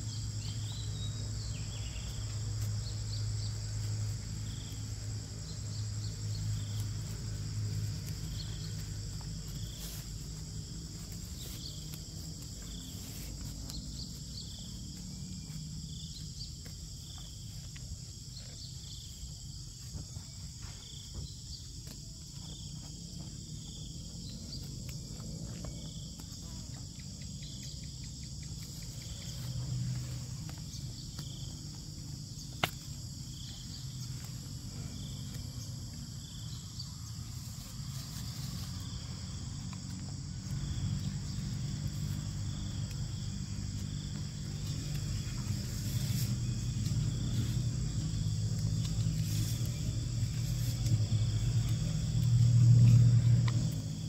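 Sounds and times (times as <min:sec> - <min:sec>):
insect chirp: 0:00.0 - 0:54.0.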